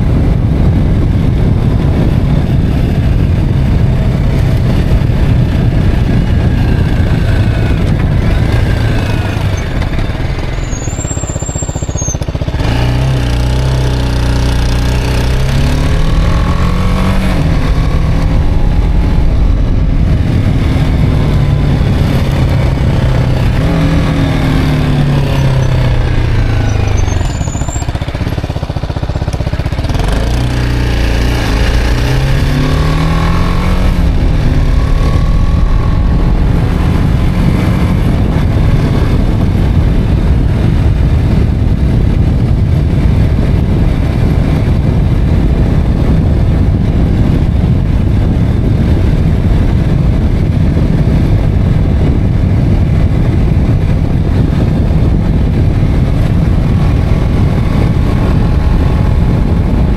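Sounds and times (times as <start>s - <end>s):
motorcycle engine accelerating: 0.0s - 59.9s
wind on microphone: 0.0s - 59.9s.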